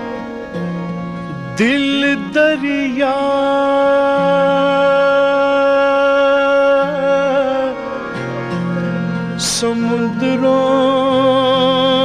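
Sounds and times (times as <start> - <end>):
acoustic guitar: 0.0 - 12.0
harmonium: 0.0 - 12.0
sarangi: 0.0 - 12.0
man singing a long note: 1.3 - 8.8, 9.4 - 12.0.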